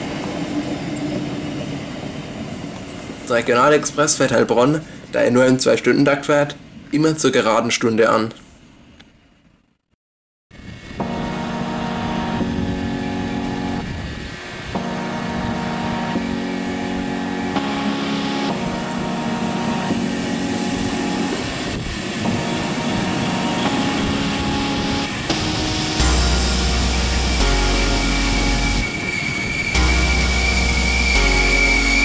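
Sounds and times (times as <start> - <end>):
train passing: 0.0 - 5.8, 10.6 - 32.0.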